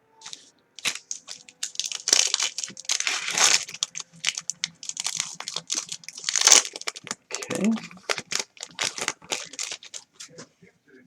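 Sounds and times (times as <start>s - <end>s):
card pack wrapper crinkling: 0.2s - 10.4s.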